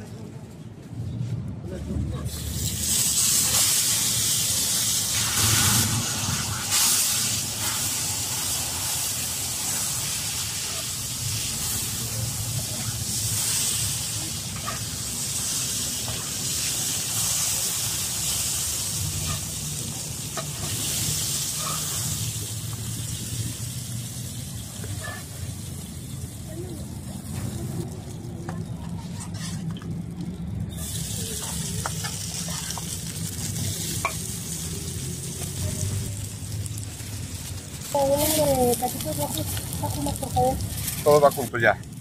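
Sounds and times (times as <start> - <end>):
tortillas sizzling in hot oil: 2.2 - 42.0.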